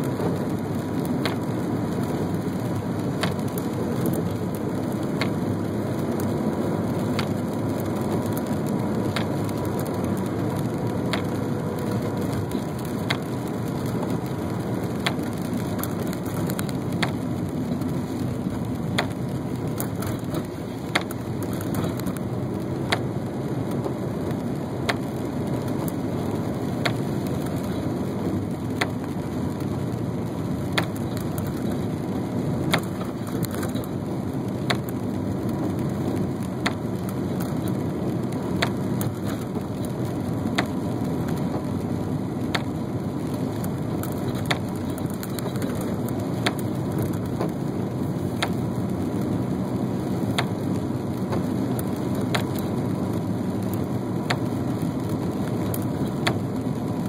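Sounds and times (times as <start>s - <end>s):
road and rain noise in car: 0.0s - 57.0s
windshield wiper clicks: 0.2s - 2.4s, 3.0s - 6.3s, 7.0s - 22.3s, 22.9s - 27.9s, 30.6s - 32.0s, 32.6s - 47.7s, 48.3s - 49.4s, 50.0s - 53.4s, 54.2s - 56.7s.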